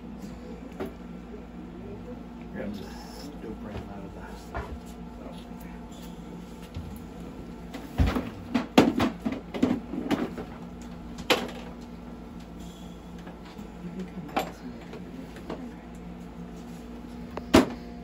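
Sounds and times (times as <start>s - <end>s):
low hum of equipment: 0.0s - 18.0s.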